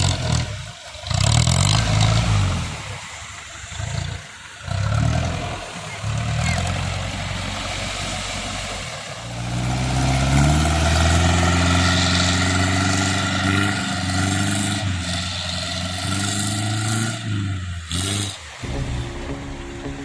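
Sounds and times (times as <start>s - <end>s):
jeep engine revving: 0.0s - 20.0s.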